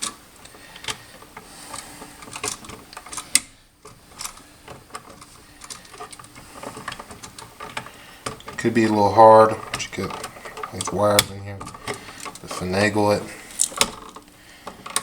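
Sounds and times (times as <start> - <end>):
electrical wires clicking and rattling: 0.0 - 15.0.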